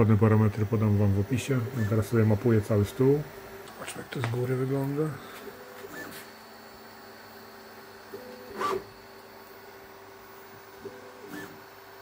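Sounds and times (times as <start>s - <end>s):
faint printer hum: 0.0s - 12.0s.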